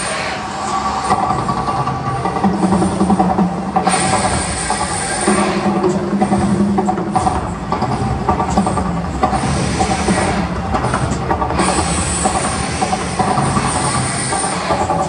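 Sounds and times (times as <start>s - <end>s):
amplified soundtrack sustained tones: 0.0s - 15.0s
rumbling gas fire jets: 0.0s - 15.0s.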